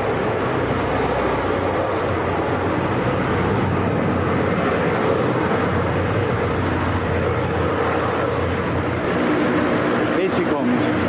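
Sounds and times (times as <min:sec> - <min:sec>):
turboprop engines droning: 0:00.0 - 0:11.0.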